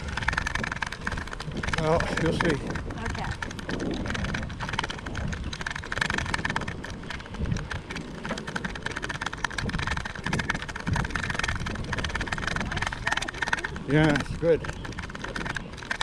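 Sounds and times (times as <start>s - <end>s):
small rattles and clicks: 0.0s - 16.0s
wind noise on microphone: 0.0s - 16.0s.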